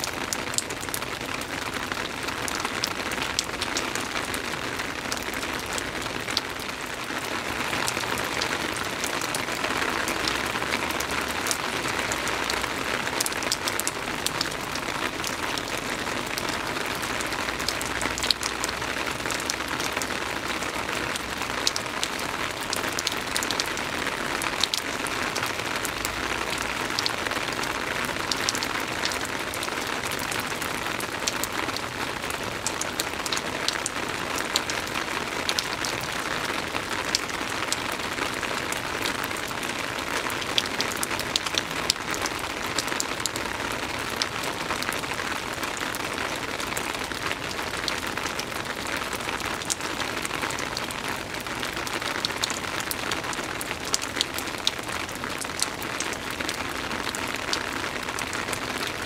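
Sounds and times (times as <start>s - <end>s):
soft rain falling: 0.0s - 59.0s.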